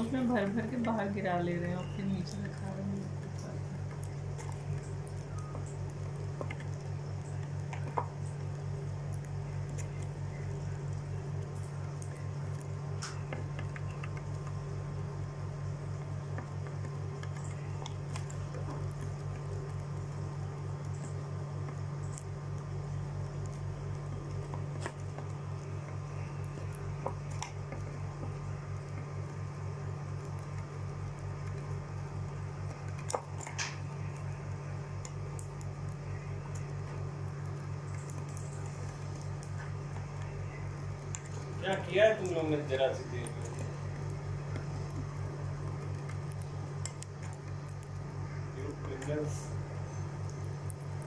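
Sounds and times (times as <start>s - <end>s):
birds pecking seed: 0.0s - 51.0s
steady low hum: 0.0s - 51.0s.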